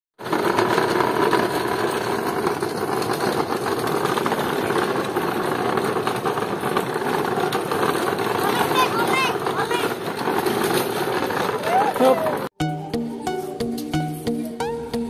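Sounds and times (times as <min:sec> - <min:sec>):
caster wheels rolling on concrete: 0:00.2 - 0:15.0.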